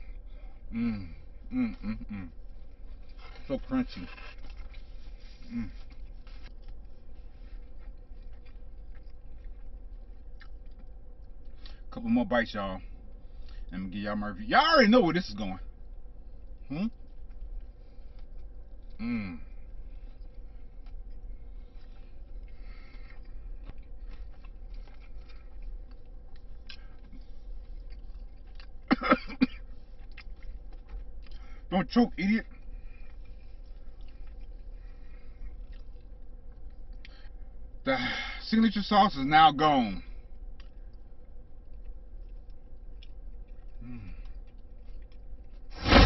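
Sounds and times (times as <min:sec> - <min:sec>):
person chewing crunchy food: 0:00.0 - 0:12.0, 0:15.8 - 0:31.7, 0:32.5 - 0:37.4, 0:40.2 - 0:46.0
low hum: 0:00.0 - 0:46.0.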